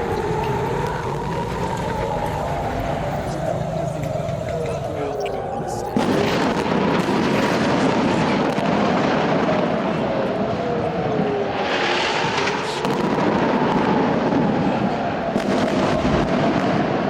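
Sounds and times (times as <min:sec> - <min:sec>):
noisy rumble: 0:00.0 - 0:16.3
air-raid sirens wailing: 0:00.0 - 0:17.0.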